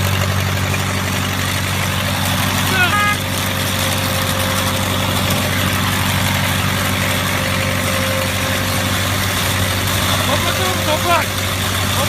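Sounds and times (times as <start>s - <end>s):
tractor engine hum: 0.0s - 12.0s.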